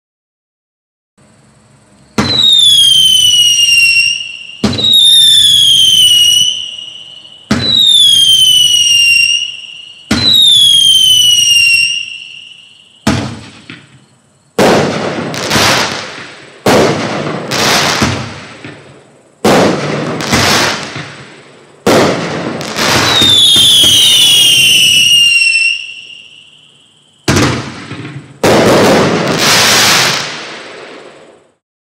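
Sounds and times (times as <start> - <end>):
firework bursts: 2.1 - 31.6
firework whistles falling in pitch: 2.2 - 31.6.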